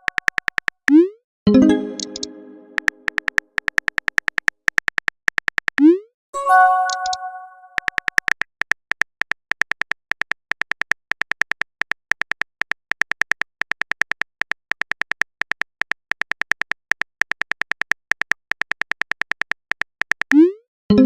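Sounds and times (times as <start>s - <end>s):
phone keyboard typing ticks: 0.0s - 20.6s.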